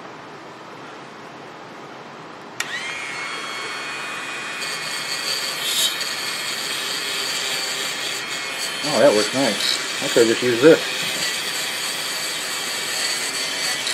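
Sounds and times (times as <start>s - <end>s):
rotary tool whining: 2.6s - 13.9s
wire wheel scrubbing metal: 2.7s - 13.9s.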